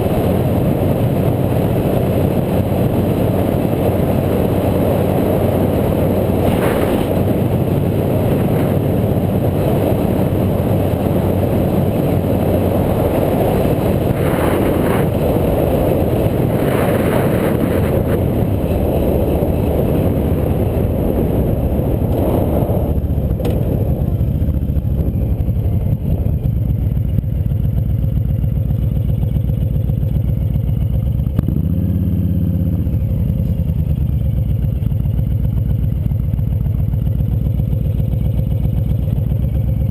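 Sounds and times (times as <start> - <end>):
wind and riding noise: 0.0 - 39.9.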